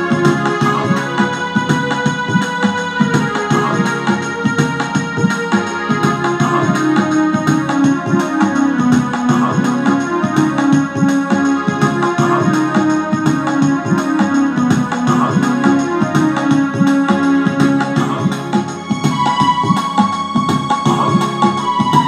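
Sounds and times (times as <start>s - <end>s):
electronic keyboard organ melody: 0.0s - 22.0s
steady beat: 0.0s - 22.0s.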